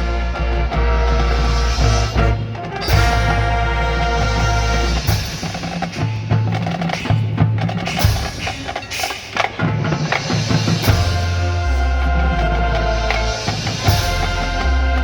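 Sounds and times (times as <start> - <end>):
drum and wood-block strikes: 1.9 - 15.0.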